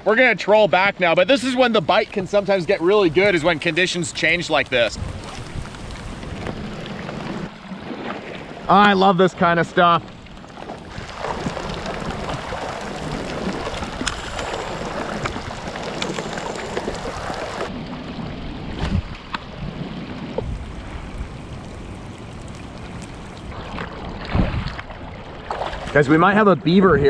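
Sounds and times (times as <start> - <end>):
paddle splashing water: 1.3 - 26.0
wind buffeting microphone: 1.7 - 8.7, 10.0 - 26.0.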